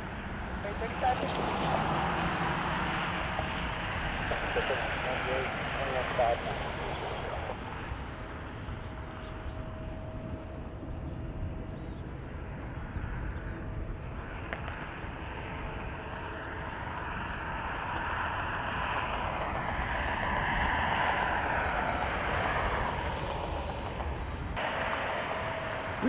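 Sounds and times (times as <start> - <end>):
jet airliner engines passing: 0.0 - 26.0
wind rumbling on microphone: 0.0 - 26.0.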